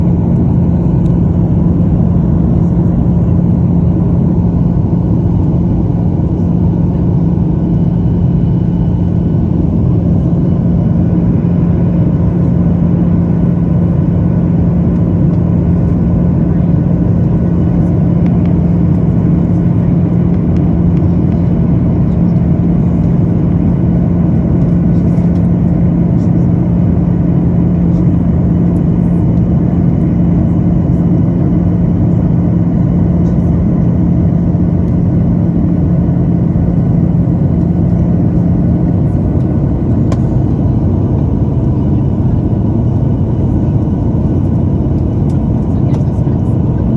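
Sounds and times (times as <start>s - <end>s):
airliner cabin engine rumble: 0.0s - 46.9s
constant low hum: 0.0s - 46.9s.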